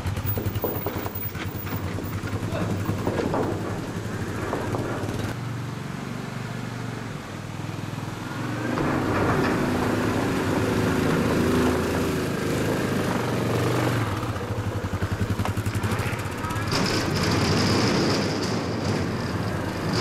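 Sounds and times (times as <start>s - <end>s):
quad engine running under load: 0.0s - 20.0s.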